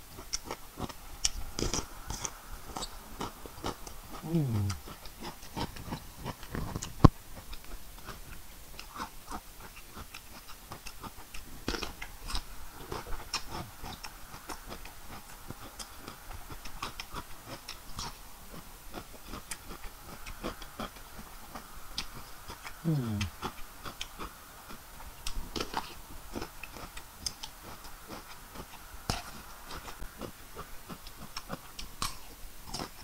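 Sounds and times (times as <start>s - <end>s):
crunchy chewing of cucumber: 0.0s - 33.0s.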